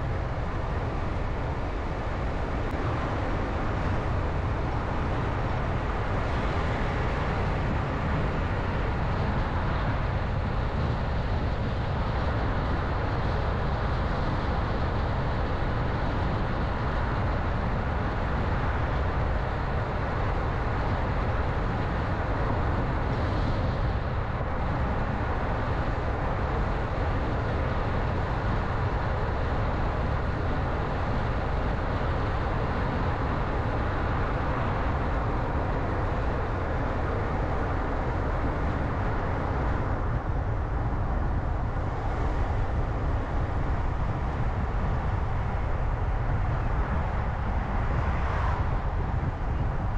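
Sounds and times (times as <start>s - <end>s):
road and tyre noise: 0.0s - 49.9s.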